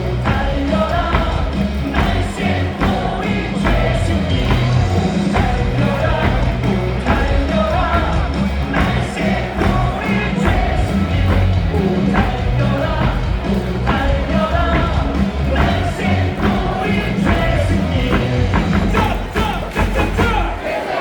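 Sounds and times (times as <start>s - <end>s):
crowd singing along: 0.0s - 21.0s
rock song over loudspeakers: 0.0s - 21.0s.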